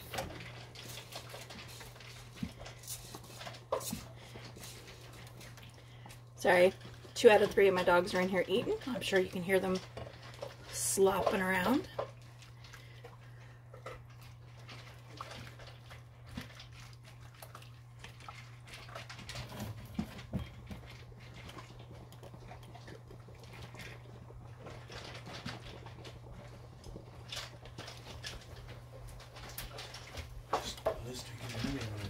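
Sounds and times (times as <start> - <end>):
dogs eating from bowls: 0.0 - 32.0.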